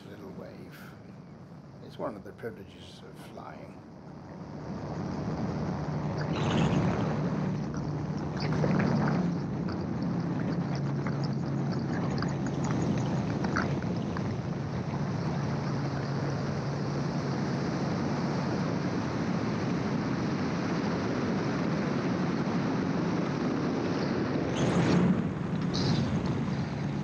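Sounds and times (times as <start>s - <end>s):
engine and propeller drone: 0.0s - 27.0s
wind noise: 0.0s - 27.0s.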